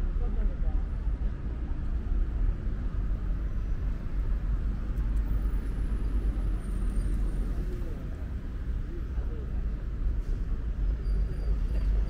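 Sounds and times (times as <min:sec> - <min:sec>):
city street rumble: 0:00.0 - 0:12.0.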